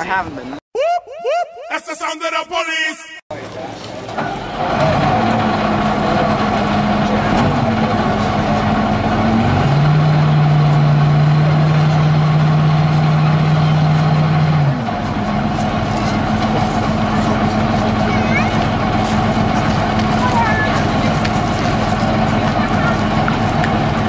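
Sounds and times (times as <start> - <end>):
tracked vehicle engine droning: 3.3 - 24.0.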